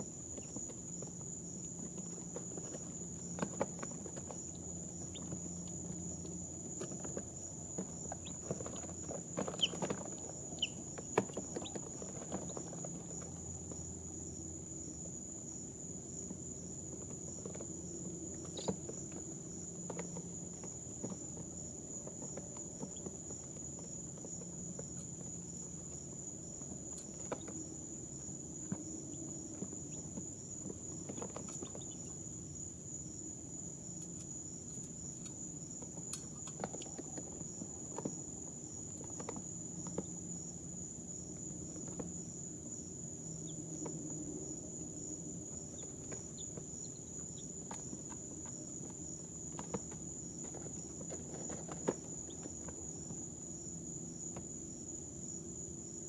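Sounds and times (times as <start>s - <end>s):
chicks tapping and scratching: 0.1s - 55.4s.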